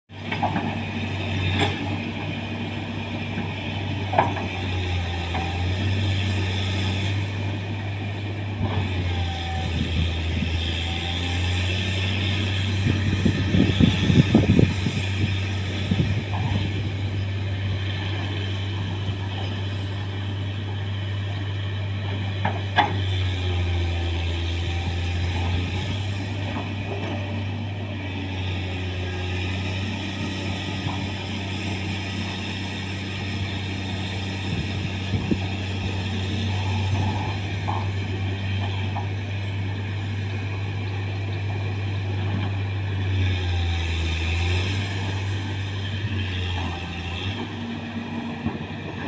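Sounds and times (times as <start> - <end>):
diesel engine running: 0.1 - 49.0.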